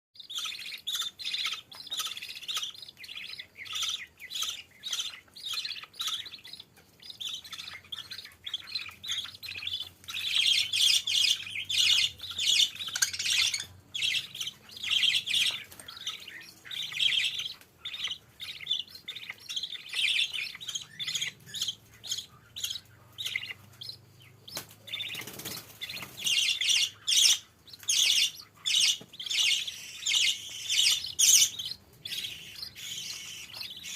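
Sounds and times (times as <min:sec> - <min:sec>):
birds chirping: 0:00.2 - 0:33.9.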